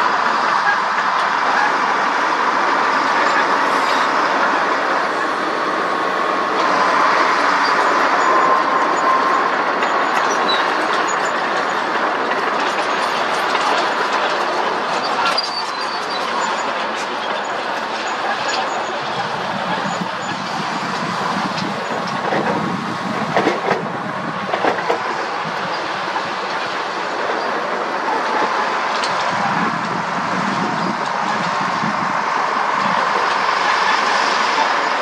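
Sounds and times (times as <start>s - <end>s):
bulldozer steel tracks clanking: 0.0s - 35.0s
heavy machinery engines running: 0.0s - 35.0s.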